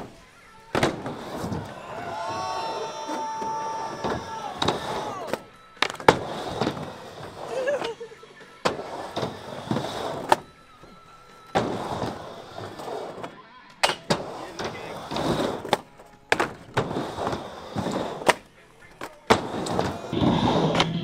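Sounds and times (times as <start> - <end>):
skateboard wheels rushing on ramp: 0.0 - 13.4, 14.0 - 21.0
skateboard clacks: 0.0 - 21.0.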